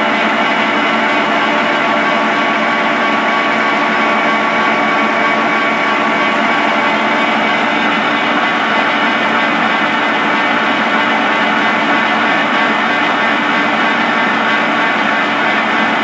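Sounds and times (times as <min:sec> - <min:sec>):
gear hobbing machine whine: 0:00.0 - 0:16.0.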